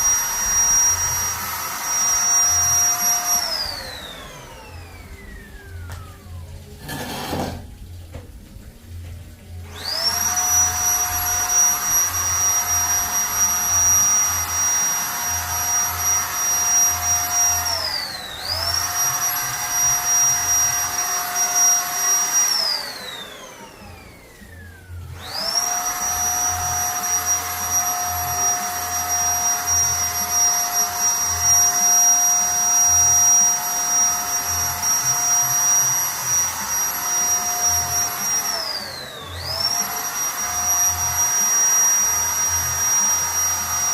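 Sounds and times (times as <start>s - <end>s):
paint spray gun motor whine: 0.0s - 7.7s, 9.5s - 43.9s.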